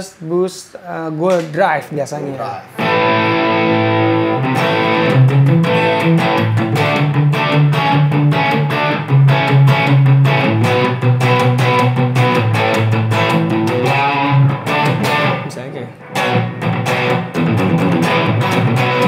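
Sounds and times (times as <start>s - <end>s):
overdriven electric guitar: 2.8s - 19.0s.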